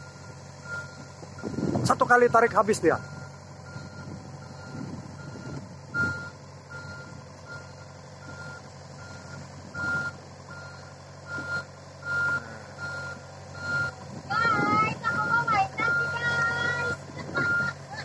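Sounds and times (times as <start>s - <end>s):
diesel engine running: 0.0s - 18.0s
excavator travel alarm beeping: 0.0s - 18.0s.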